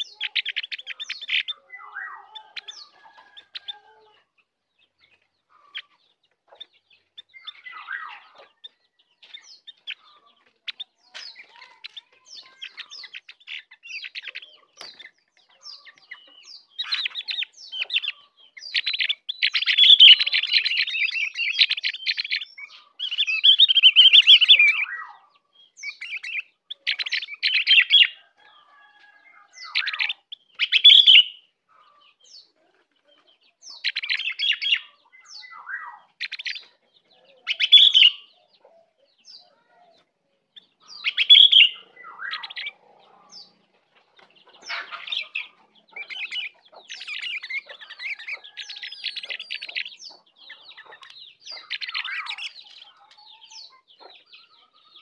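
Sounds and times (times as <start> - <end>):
bird singing high chattering song: 0.0 - 55.0.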